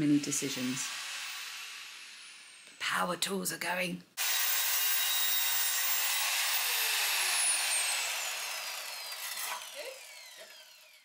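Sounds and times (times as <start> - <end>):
power tool motor whining: 0.4 - 2.7, 4.2 - 11.0.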